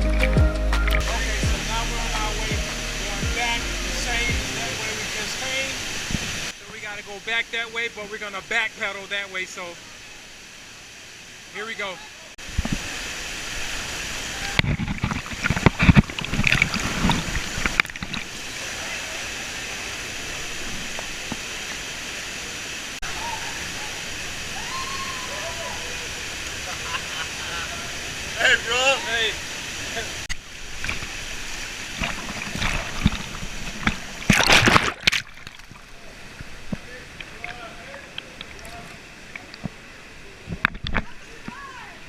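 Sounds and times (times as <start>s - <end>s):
rushing river water: 0.0s - 42.0s.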